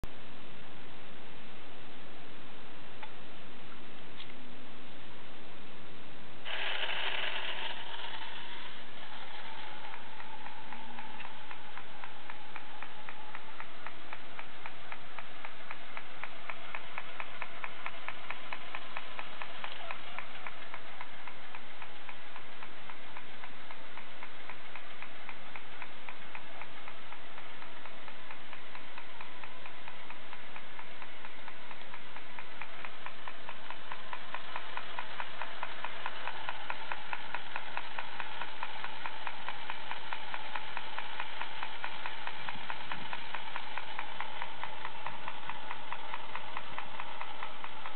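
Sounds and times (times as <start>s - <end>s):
toy mechanism clicking and whirring: 6.4s - 47.9s.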